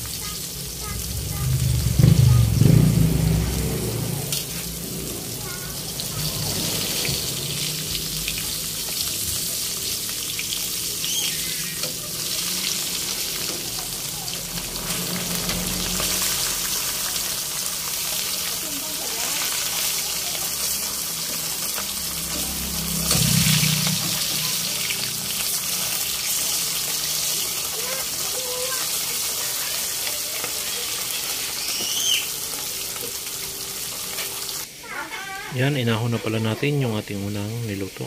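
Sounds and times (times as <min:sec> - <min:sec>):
fish sizzling in hot oil: 0:00.0 - 0:38.0.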